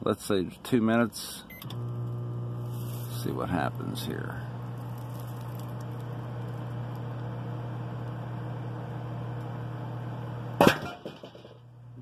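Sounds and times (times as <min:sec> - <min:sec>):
microwave oven humming: 0:01.1 - 0:12.0.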